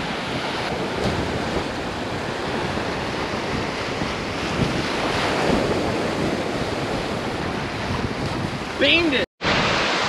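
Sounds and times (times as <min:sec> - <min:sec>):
ocean surf washing and breaking: 0:00.0 - 0:10.0
wind buffeting microphone: 0:00.0 - 0:10.0.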